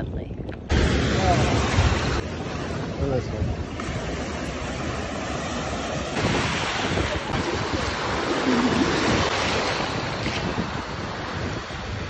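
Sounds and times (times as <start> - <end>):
wind buffeting microphone: 0.0 - 12.0
small waves splashing: 0.7 - 12.0.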